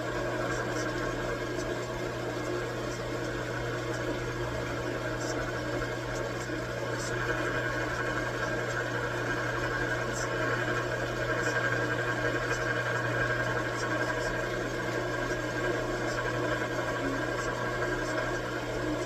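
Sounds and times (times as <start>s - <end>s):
metal lathe motor hum: 0.0s - 19.0s.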